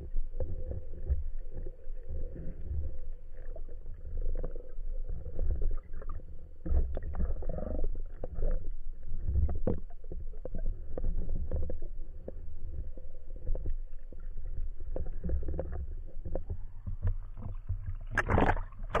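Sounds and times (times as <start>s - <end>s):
underwater rumble of moving water: 0.0s - 19.0s
water sloshing and splashing: 0.0s - 19.0s.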